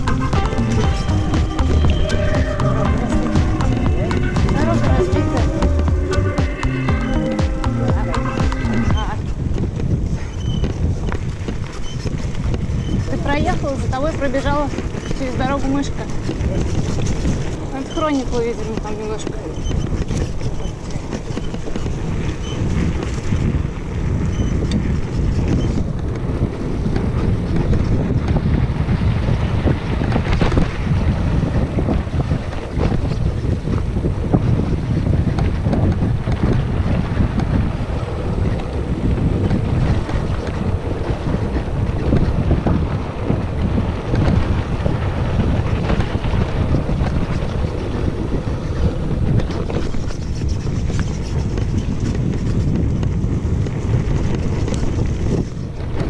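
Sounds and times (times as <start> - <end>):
tyres rolling on dirt: 0.0 - 56.0
wind buffeting microphone: 0.0 - 56.0.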